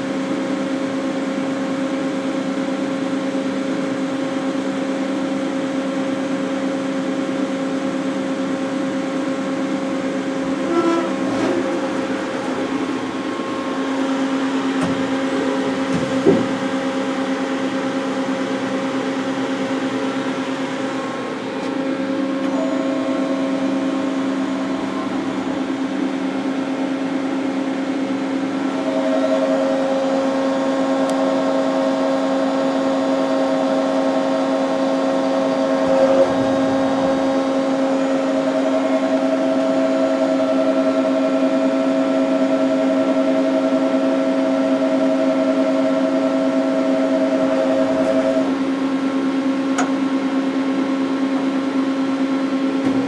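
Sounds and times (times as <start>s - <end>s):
high machine whine: 0.0s - 53.0s
lathe motor hum: 0.0s - 53.0s.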